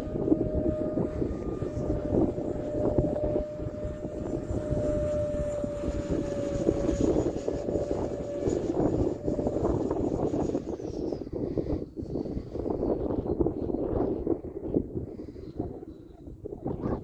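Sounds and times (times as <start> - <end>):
model jet motor whine: 0.0 - 17.0
wind on microphone: 0.0 - 17.0.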